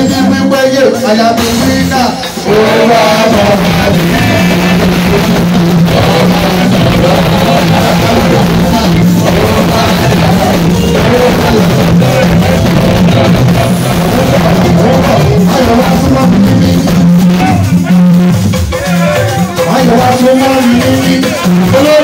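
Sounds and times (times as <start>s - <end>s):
band with guitar and bass: 0.0s - 22.0s
man singing into a microphone: 0.0s - 22.0s.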